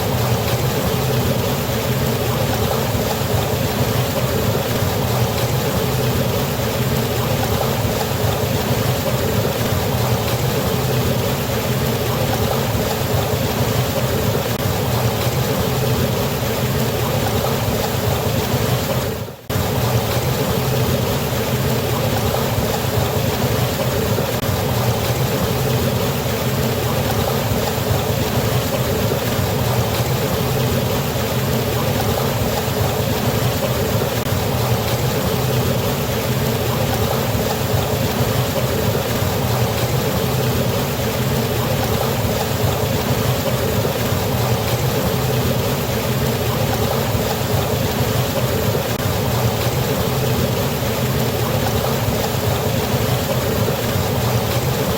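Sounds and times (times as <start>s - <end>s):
waterfall rushing water: 0.0s - 54.9s.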